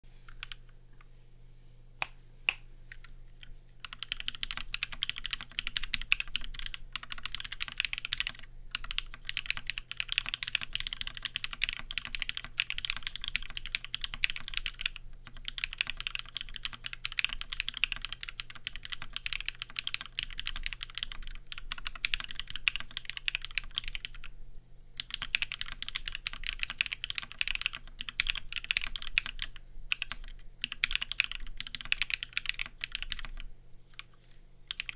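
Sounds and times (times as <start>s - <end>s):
mechanical keyboard typing: 3.8s - 24.3s, 25.0s - 34.1s, 34.7s - 34.9s.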